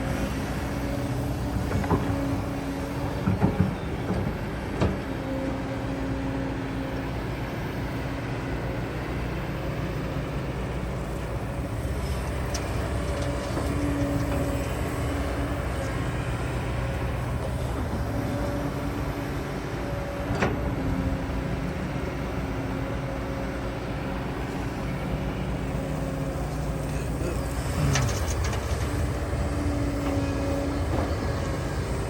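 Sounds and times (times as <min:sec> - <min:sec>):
diesel excavator engine: 0:00.0 - 0:32.0.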